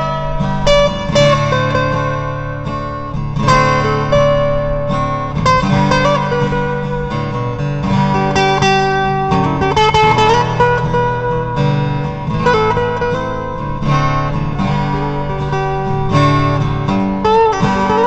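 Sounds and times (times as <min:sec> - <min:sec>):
instrumental guitar music: 0:00.0 - 0:18.0.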